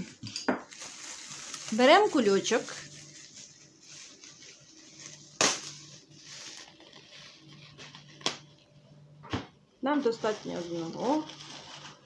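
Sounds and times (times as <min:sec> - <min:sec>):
plastic bag rustling: 0:00.0 - 0:08.8, 0:09.8 - 0:12.0.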